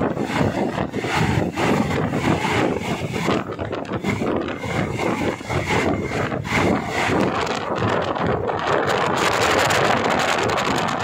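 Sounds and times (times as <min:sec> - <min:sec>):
train running noise: 0:00.0 - 0:11.0
wind buffeting microphone: 0:00.0 - 0:11.0.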